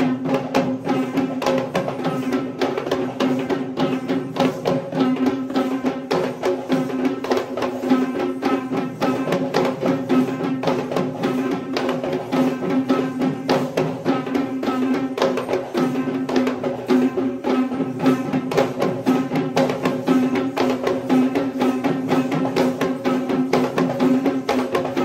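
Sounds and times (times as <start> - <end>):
fast drumming: 0.0 - 25.0.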